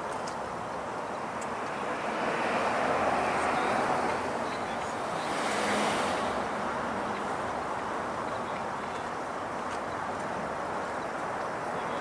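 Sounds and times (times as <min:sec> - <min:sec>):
cars passing: 0:00.4 - 0:12.0.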